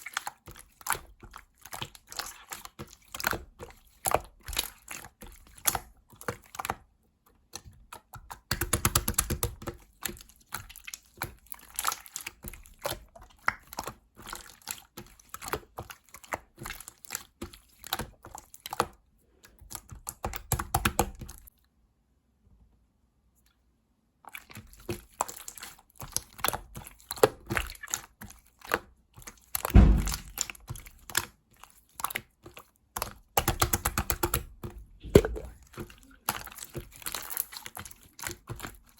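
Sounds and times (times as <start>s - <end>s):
heavy slime squelch: 0.0s - 21.6s, 24.2s - 38.9s
slime squishing with crackles and pops: 0.0s - 21.6s, 24.2s - 38.9s.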